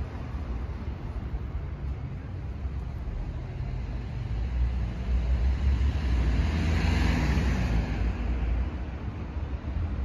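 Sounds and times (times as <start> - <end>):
car passing: 0.0 - 10.0
traffic: 0.0 - 10.0.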